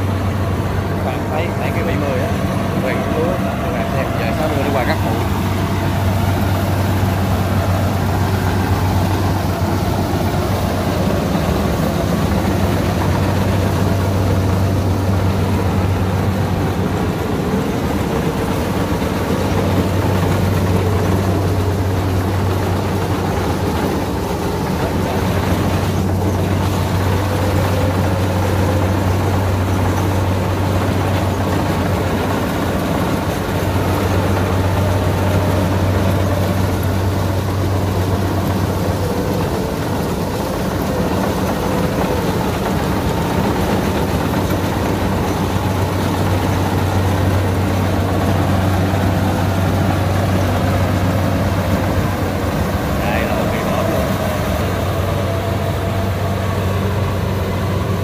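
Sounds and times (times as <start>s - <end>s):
combine harvester diesel engine: 0.0s - 58.0s
harvester threshing gear working: 0.0s - 58.0s.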